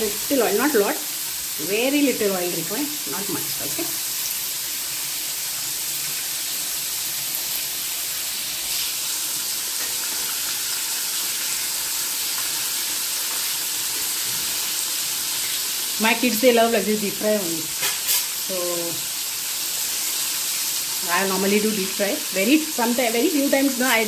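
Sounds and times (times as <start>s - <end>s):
fish sizzling in hot oil: 0.0s - 24.0s.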